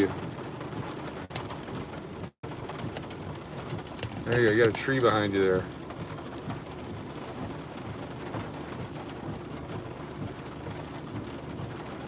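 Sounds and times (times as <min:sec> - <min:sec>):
steady rain: 0:00.0 - 0:12.0
vehicle rumble: 0:00.0 - 0:12.0.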